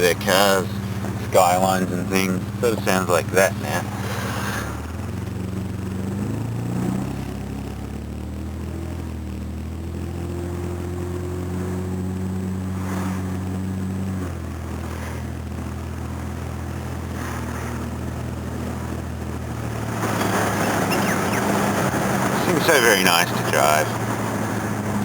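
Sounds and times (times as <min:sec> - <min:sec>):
car engine running loud: 0:00.0 - 0:25.0.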